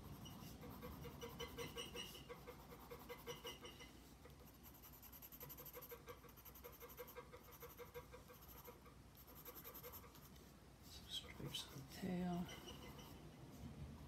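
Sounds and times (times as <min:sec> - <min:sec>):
pencil scratching on paper: 0:00.0 - 0:10.4, 0:11.3 - 0:13.2.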